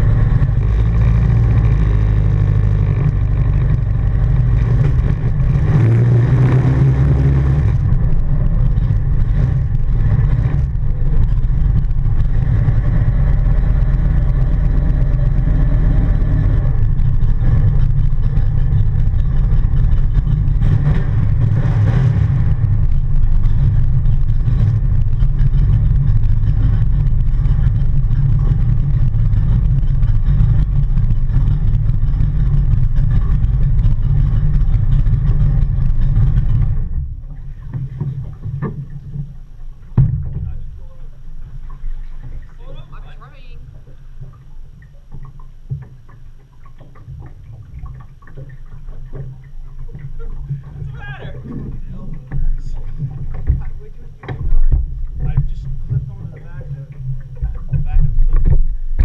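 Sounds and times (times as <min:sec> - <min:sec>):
boat engine running: 0:00.0 - 0:59.0
wind and water rushing: 0:00.0 - 0:59.0.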